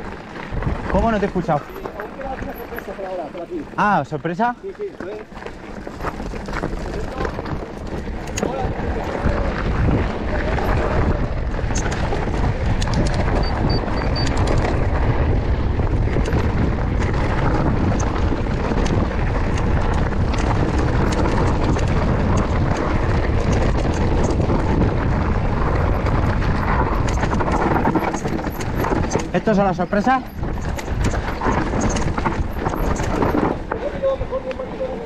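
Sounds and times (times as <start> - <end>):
wind rumble on microphone: 0.0 - 3.8, 4.6 - 35.0
bike clicks and rattles: 0.0 - 35.0.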